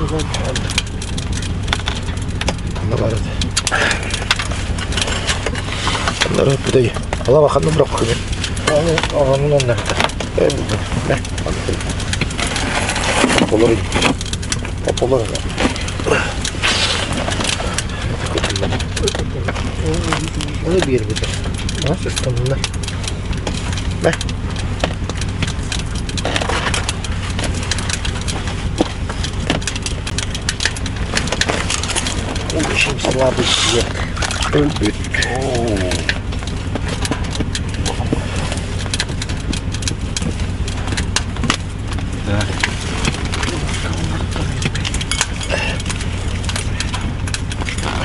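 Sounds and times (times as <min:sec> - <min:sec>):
sharp clicks and crackles: 0:00.0 - 0:48.0
steady low hum: 0:00.0 - 0:48.0.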